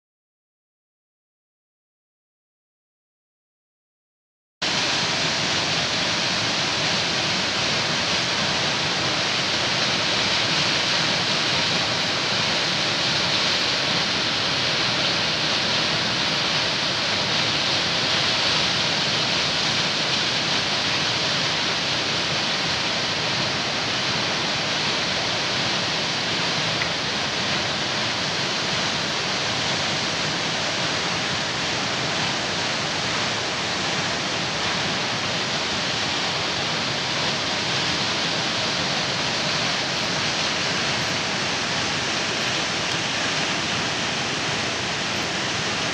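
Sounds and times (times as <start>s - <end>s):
waterfall rushing: 4.6s - 45.9s.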